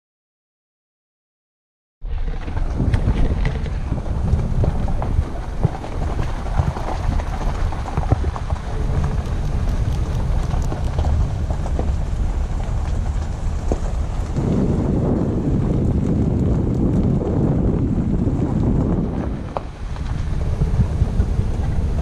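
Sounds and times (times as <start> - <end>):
wind buffeting microphone: 2.0 - 22.0.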